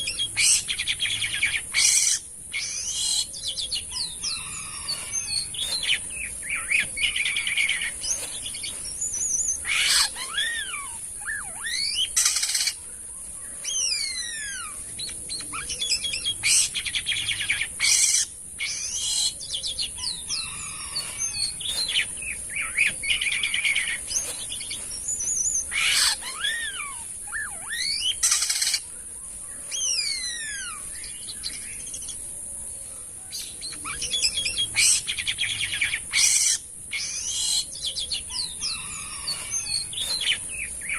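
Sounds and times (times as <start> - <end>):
starling singing: 0.0 - 12.8, 13.5 - 28.9, 29.6 - 32.2, 33.8 - 40.9
steady high-pitched hiss: 0.0 - 40.9.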